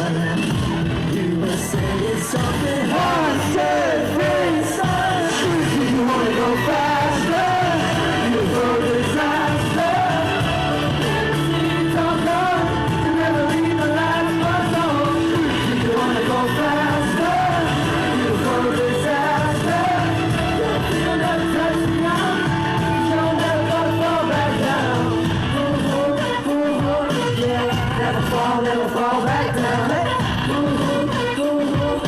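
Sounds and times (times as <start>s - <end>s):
upbeat pop song with singing: 0.0s - 32.0s.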